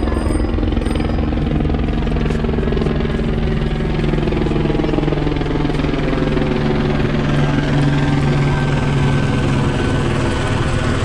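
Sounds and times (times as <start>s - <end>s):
helicopter engine hum: 0.0s - 11.0s
helicopter rotor beat: 0.0s - 11.0s.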